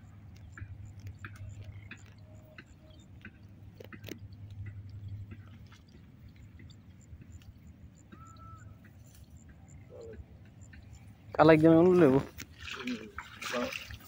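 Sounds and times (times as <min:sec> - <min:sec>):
low steady rumble: 0:00.0 - 0:11.6.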